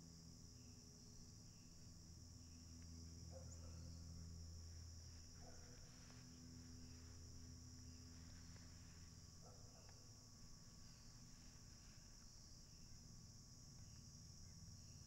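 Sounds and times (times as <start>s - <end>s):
low steady hum: 0.0s - 15.0s
insect chorus trilling: 0.2s - 15.0s.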